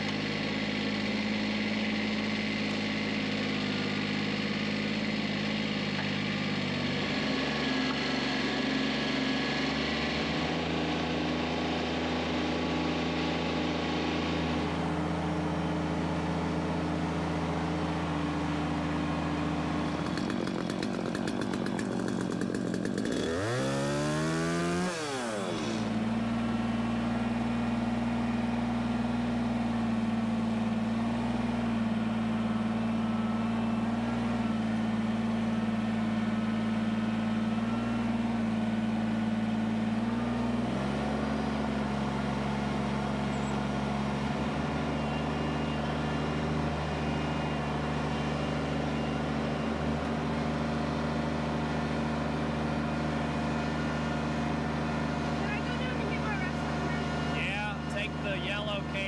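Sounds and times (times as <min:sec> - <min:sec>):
sawmill engine revving: 0:00.0 - 0:59.0.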